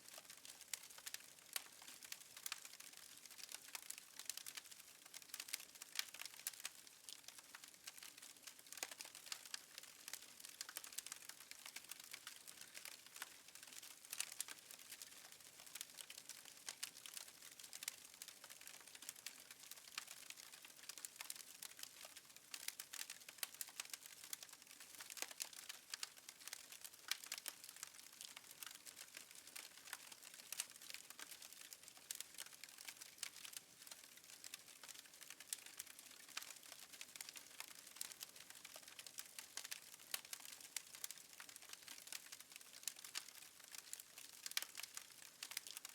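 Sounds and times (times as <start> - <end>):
wood fire crackling: 0.1 - 45.9.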